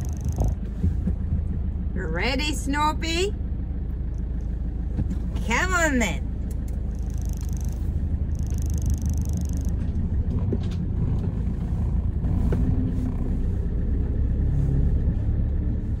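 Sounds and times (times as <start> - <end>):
van road rumble: 0.0 - 16.0.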